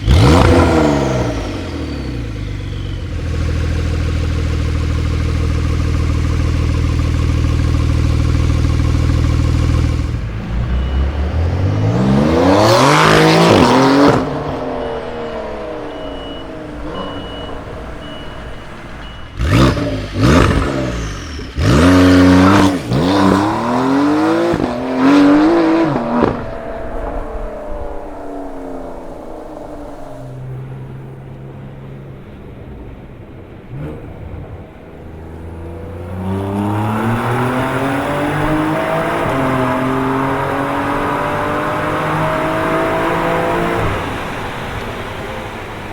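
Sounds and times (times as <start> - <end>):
car engine idling: 0.0 - 36.9
car engine revving: 0.0 - 45.9.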